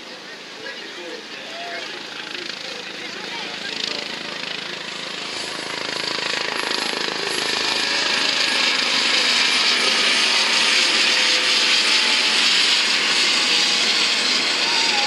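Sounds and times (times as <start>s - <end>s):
helicopter rotor chop: 0.0s - 15.0s
turbine whine: 0.6s - 15.0s.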